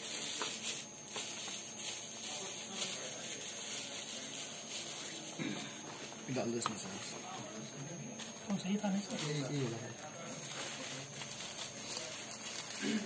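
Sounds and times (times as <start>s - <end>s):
plastic packaging and papers crinkling: 0.0s - 13.0s.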